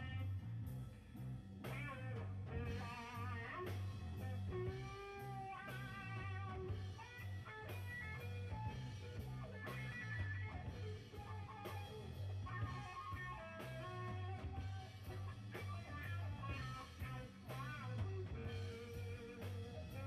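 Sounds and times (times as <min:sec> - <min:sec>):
electric guitar bent lead notes: 0:00.0 - 0:00.6, 0:01.2 - 0:20.0
bass and drum beat: 0:00.0 - 0:20.0.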